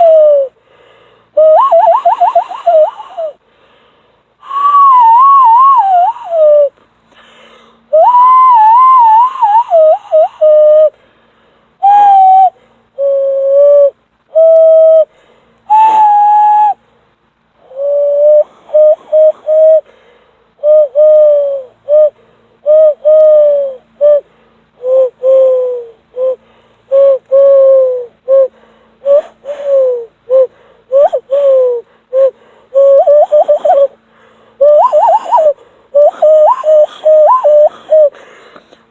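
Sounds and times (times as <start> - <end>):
hand whistle bird-like calls: 0.0 - 0.5, 1.4 - 3.4, 4.4 - 6.7, 7.9 - 10.9, 11.8 - 15.1, 15.7 - 16.8, 17.6 - 19.9, 20.6 - 34.0, 34.6 - 38.2.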